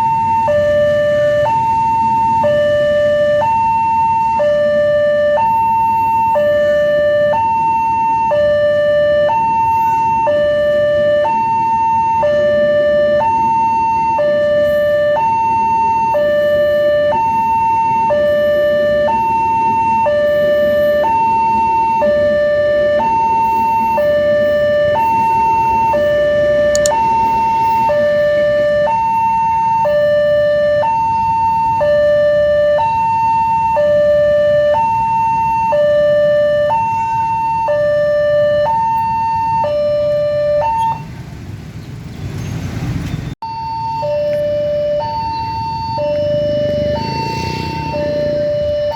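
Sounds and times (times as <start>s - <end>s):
two-tone crossing warning siren: 0.0s - 41.2s, 43.4s - 48.9s.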